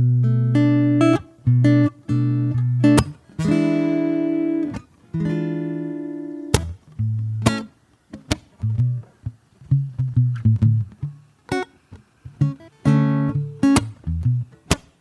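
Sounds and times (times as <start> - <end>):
acoustic guitar plucked: 0.0 - 15.0.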